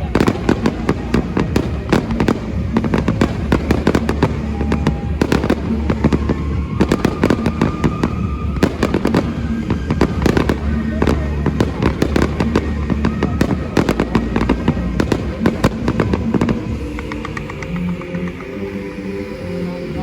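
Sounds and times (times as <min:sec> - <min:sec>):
fireworks bangs and crackles: 0:00.0 - 0:18.8.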